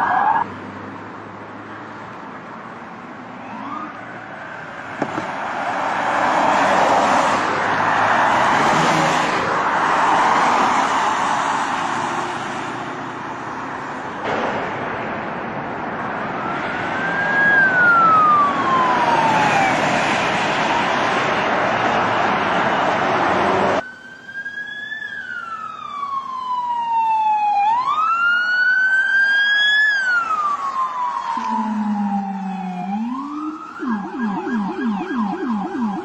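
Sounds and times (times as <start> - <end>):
police siren wail: 0.0 - 0.5, 3.3 - 12.3, 16.0 - 36.0
rushing road vehicle noise: 0.0 - 36.0.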